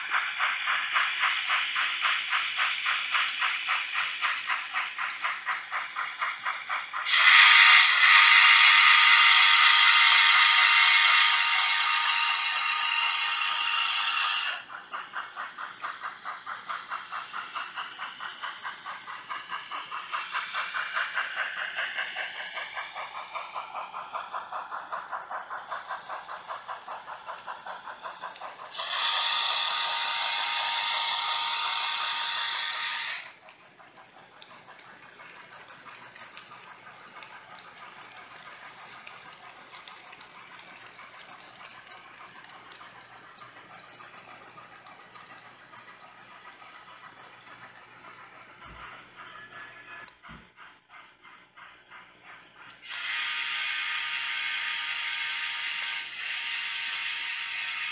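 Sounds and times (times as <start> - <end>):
model steam locomotive running: 0.0 - 57.9
wheels clicking on rail joints: 0.0 - 57.9.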